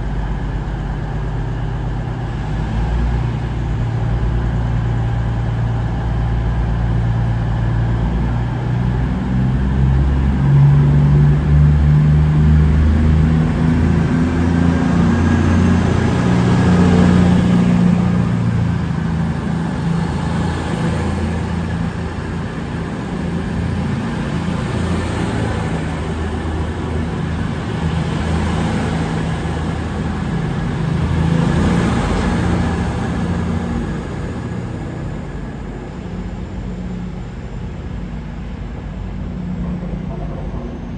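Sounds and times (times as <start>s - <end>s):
diesel train engine droning: 0.0s - 40.9s.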